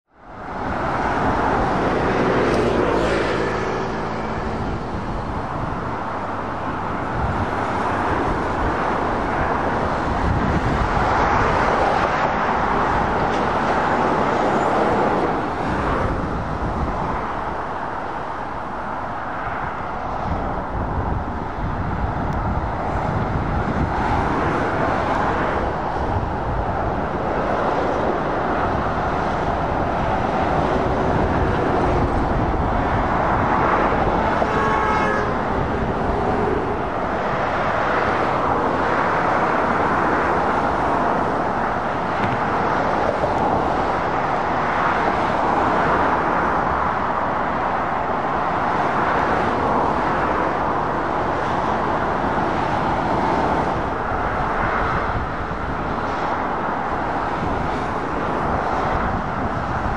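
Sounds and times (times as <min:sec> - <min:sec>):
motorway traffic passing: 0:00.0 - 0:59.9.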